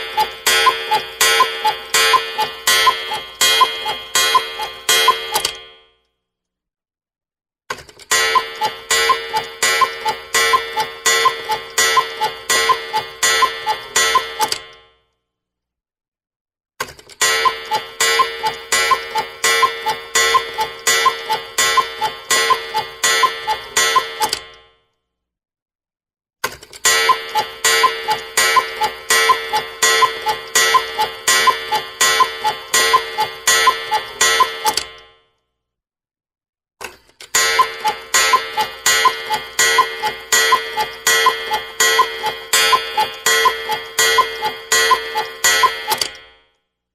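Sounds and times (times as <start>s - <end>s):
cuckoo clock strikes: 0.0s - 5.8s, 8.0s - 14.8s, 17.1s - 24.6s, 26.8s - 35.1s, 37.2s - 46.4s.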